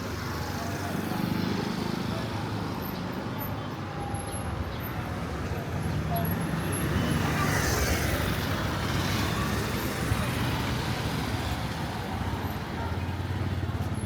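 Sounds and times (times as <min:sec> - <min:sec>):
road noise: 0:00.0 - 0:14.0
vehicle engines running: 0:00.0 - 0:14.0.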